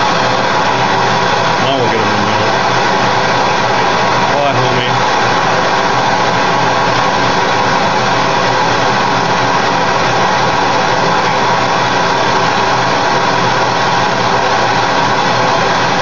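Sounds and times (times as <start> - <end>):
gas torch flame roaring: 0.0 - 16.0.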